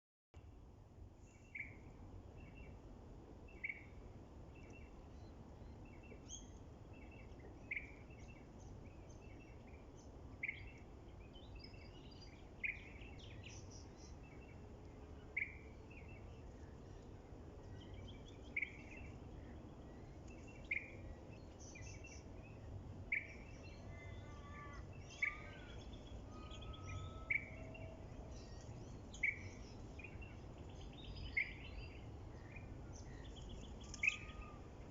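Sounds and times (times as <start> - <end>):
steady low background noise: 0.4 - 34.9
birds chirping faintly: 3.5 - 34.9.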